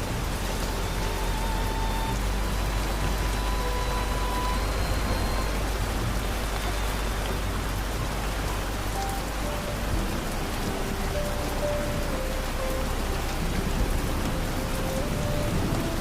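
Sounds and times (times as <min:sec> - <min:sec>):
soft held musical tones: 0:00.0 - 0:16.0
steady rain falling: 0:00.0 - 0:16.0.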